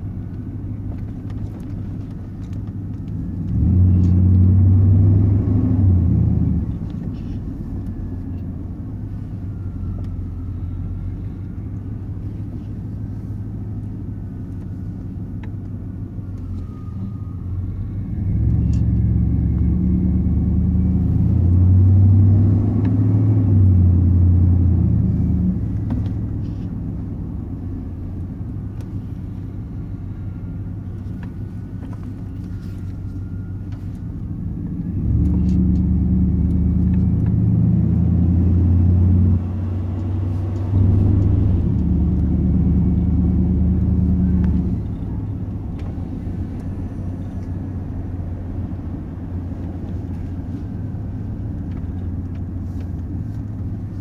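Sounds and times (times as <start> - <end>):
engine exhaust rumble: 0.0 - 54.0.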